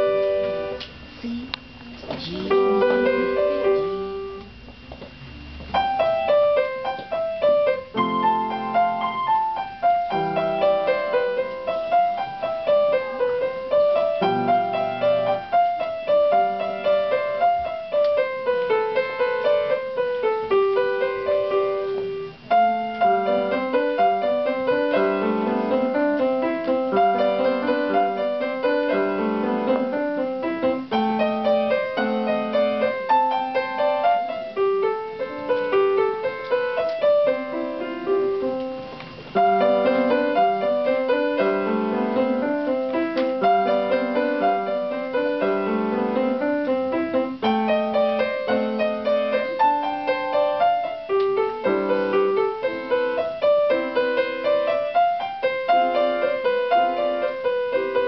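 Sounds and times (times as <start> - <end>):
grand piano melody: 0.0 - 58.0.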